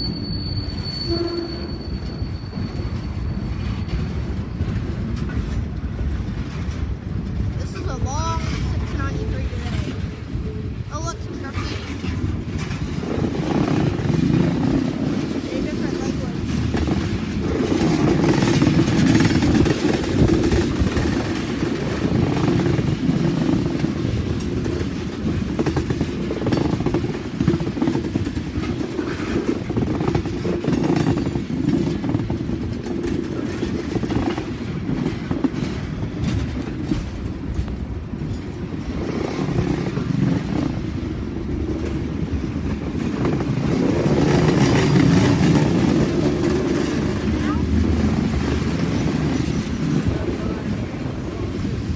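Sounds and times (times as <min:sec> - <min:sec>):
freight train wheels rumbling: 0:00.0 - 0:51.9
train cars clattering: 0:00.0 - 0:51.9.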